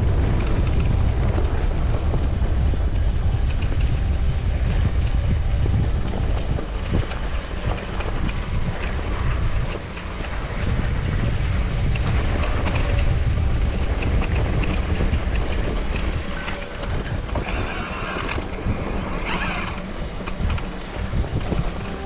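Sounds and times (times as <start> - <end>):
bike clicks and rattles: 0.0 - 22.0
wind buffeting microphone: 0.0 - 22.0.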